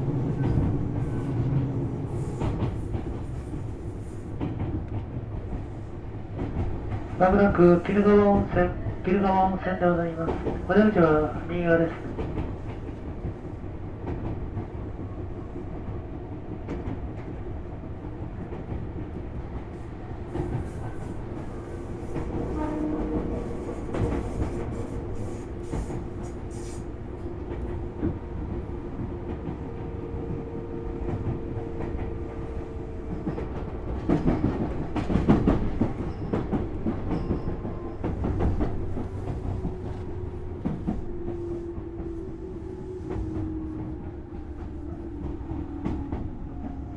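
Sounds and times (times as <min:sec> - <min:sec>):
train motor and gear hum: 0:00.0 - 0:46.9
train rumble and wheel clatter: 0:00.0 - 0:46.9.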